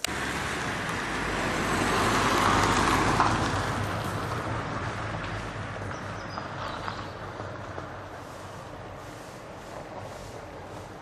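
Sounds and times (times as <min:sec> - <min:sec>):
vehicle driving past: 0:00.0 - 0:11.0.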